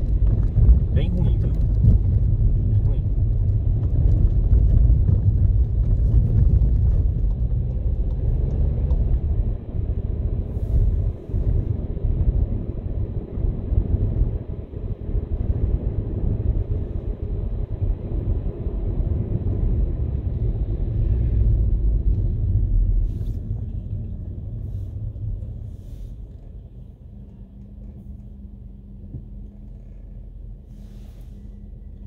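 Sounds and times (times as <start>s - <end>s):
car road rumble: 0.0s - 32.0s
idling car hum: 0.0s - 32.0s.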